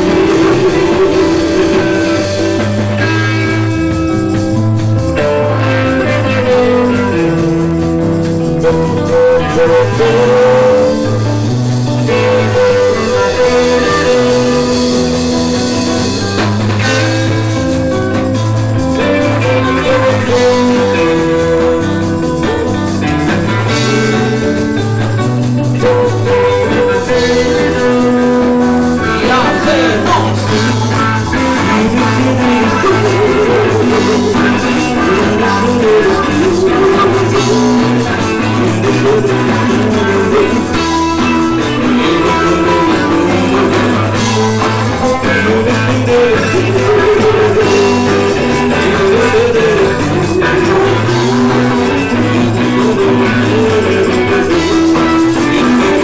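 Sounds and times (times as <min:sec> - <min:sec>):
bass: 0:00.0 - 0:56.0
bending guitar lead line: 0:00.0 - 0:56.0
drums: 0:00.0 - 0:56.0
guitar chords: 0:00.0 - 0:56.0.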